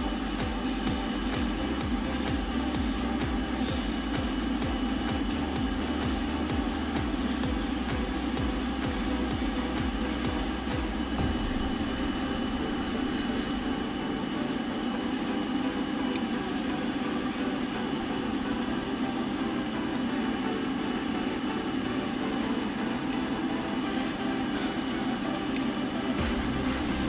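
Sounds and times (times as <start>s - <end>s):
airbrush spraying hiss: 0.0s - 19.3s, 20.1s - 27.0s
extraction fan droning: 0.0s - 27.0s.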